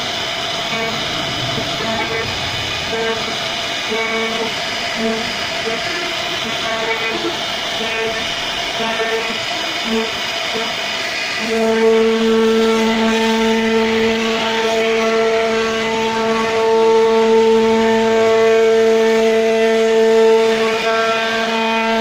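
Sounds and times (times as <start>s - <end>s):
router spindle whine: 0.0s - 18.8s.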